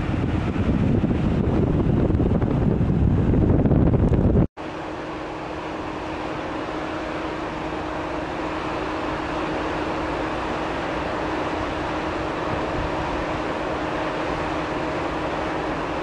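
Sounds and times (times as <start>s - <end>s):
low machinery hum: 0.0s - 16.0s
steady rushing noise: 0.0s - 16.0s.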